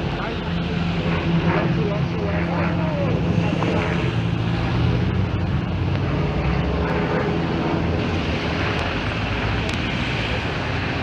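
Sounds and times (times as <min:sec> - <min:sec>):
steady engine drone: 0:00.0 - 0:11.0
street noise: 0:00.0 - 0:11.0.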